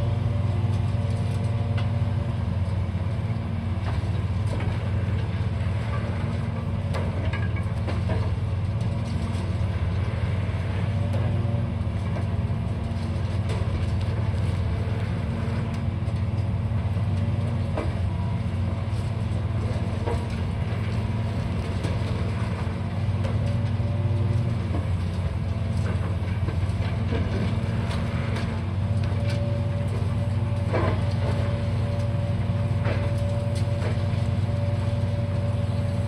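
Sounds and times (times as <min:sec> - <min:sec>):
diesel machinery droning: 0:00.0 - 0:36.0.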